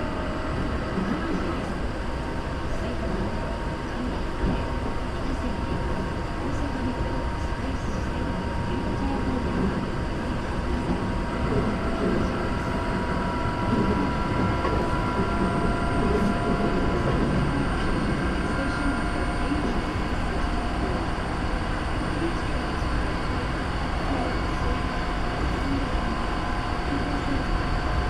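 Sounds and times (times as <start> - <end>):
faint steady tones: 0.0 - 28.0
train wheels rumbling on rail: 0.0 - 28.0.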